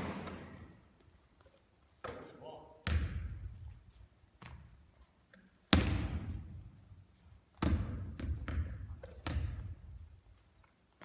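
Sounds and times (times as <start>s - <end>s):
basketball bouncing in gym: 0.0s - 0.8s, 2.0s - 10.4s.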